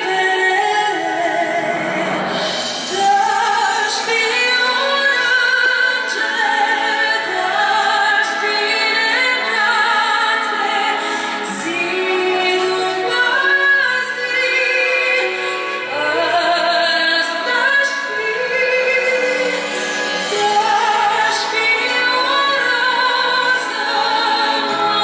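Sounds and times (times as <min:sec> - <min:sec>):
chamber string orchestra: 0:00.0 - 0:25.0
woman singing with vibrato: 0:00.0 - 0:25.0.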